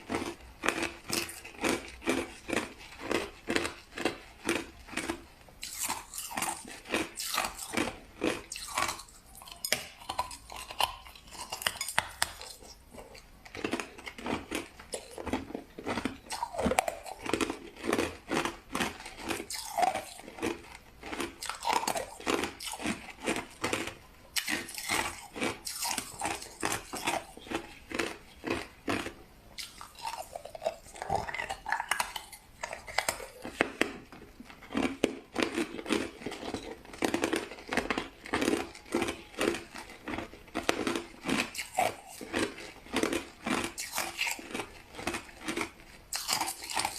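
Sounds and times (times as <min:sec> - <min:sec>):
chewing crushed ice: 0:00.0 - 0:46.9.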